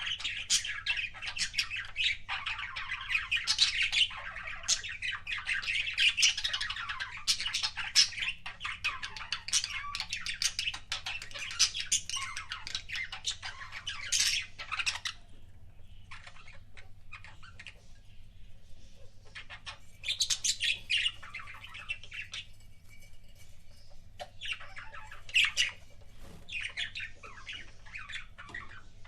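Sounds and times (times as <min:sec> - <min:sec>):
budgerigars chattering: 0:00.0 - 0:22.5, 0:23.8 - 0:25.9, 0:26.5 - 0:29.0.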